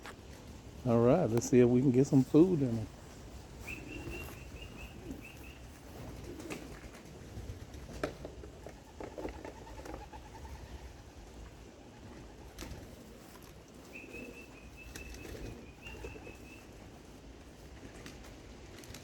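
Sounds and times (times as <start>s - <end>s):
pigeons cooing: 0.0s - 18.6s.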